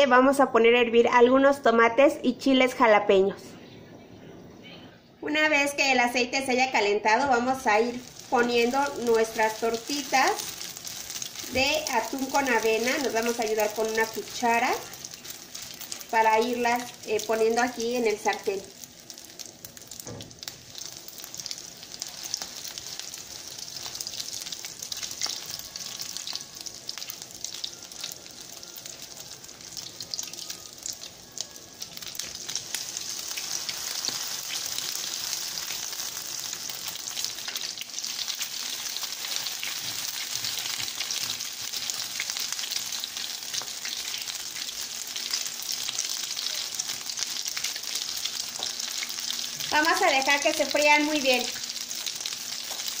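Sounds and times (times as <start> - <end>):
patties sizzling in oil: 6.1 - 53.0.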